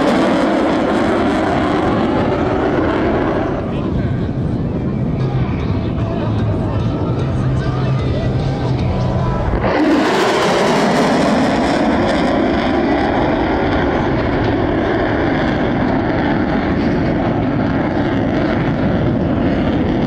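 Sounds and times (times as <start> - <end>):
fighter jet engine roar: 0.0 - 20.0.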